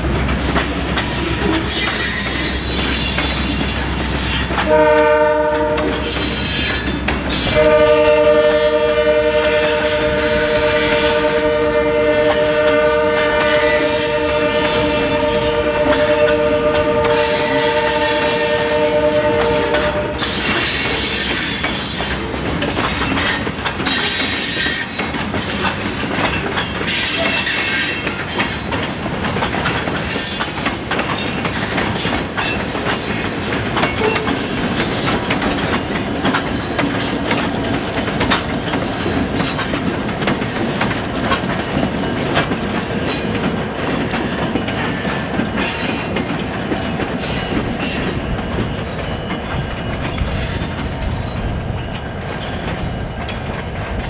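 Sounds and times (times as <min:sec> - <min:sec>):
wheels clacking over rail joints: 0:00.0 - 0:08.8, 0:10.0 - 0:54.0
freight train rumbling: 0:00.0 - 0:54.0.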